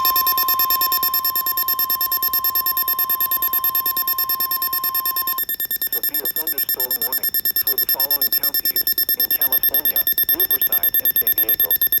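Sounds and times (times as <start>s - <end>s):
rapid electronic beeping alarm: 0.0s - 12.0s
steady high alarm tone: 0.0s - 12.0s.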